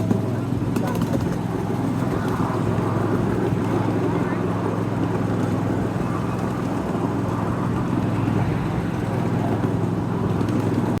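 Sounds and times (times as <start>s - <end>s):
miniature locomotive engine hum: 0.0s - 11.0s.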